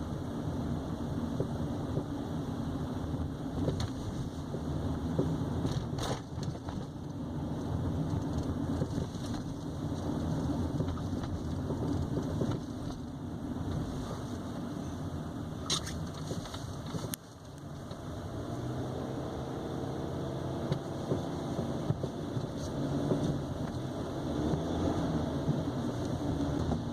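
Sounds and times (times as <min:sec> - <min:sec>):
road noise rumble: 0:00.0 - 0:26.9.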